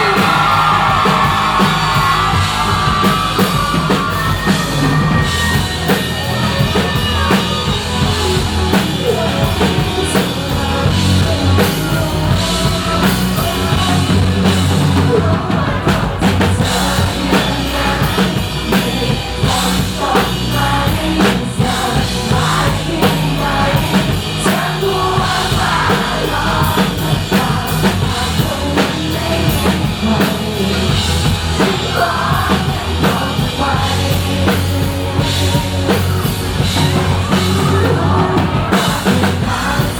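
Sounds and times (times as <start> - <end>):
drum kit beat: 0.0 - 39.9
rock band playing live: 0.0 - 39.9.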